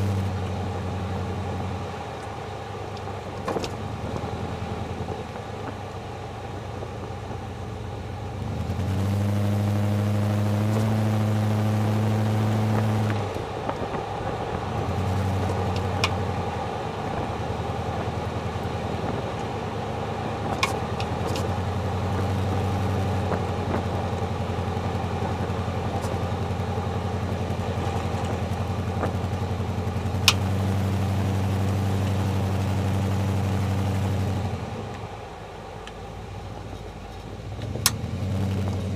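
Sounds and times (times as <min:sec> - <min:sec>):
car engine and road hum: 0:00.0 - 0:38.9.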